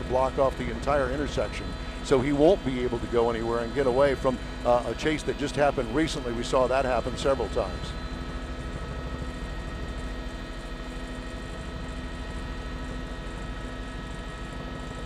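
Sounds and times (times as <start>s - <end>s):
helicopter rotor and turbine drone: 0.0s - 15.0s.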